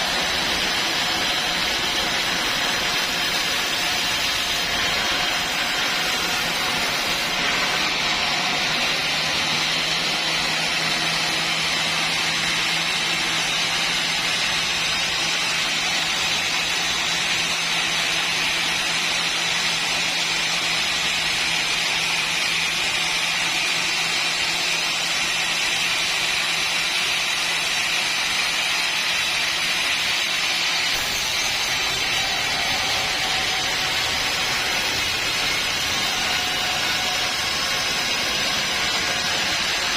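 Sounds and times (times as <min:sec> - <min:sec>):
sawmill machine whir: 0:00.0 - 0:39.9.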